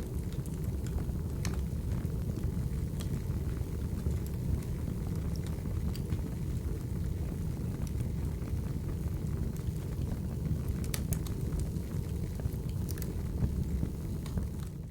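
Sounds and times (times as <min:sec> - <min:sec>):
low fire rumble: 0:00.0 - 0:14.9
wood fire crackling and popping: 0:00.0 - 0:14.9.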